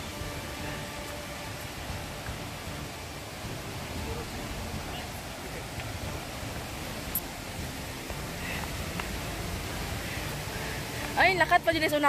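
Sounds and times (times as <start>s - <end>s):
low uneven rumble: 0.0s - 12.0s
stream water running over stones: 0.0s - 12.0s.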